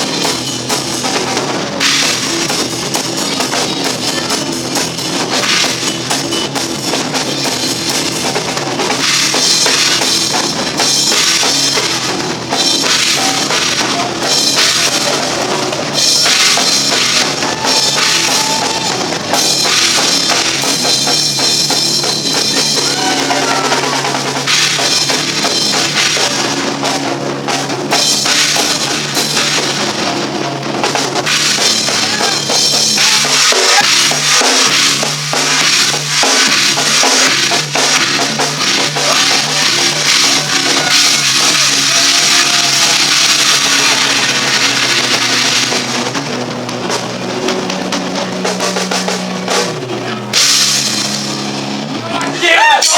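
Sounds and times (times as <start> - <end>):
drum kit: 0.0 - 52.9
rock band playing live: 0.0 - 52.9.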